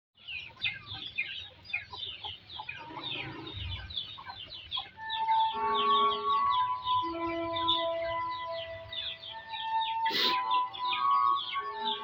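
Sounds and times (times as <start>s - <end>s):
chickens clucking: 0.2s - 12.0s
chicks peeping: 0.2s - 12.0s.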